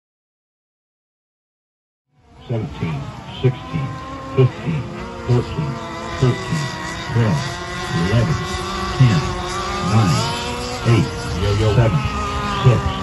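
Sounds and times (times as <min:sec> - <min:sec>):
race boat engines whining: 0:02.2 - 0:13.0.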